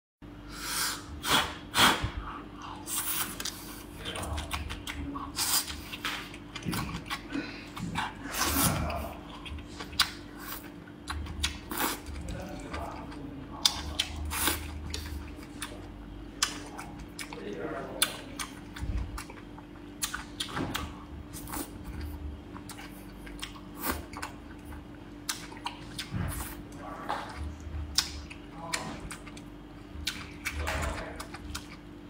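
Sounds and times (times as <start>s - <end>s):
chewing with wet mouth sounds: 2.3s - 32.0s.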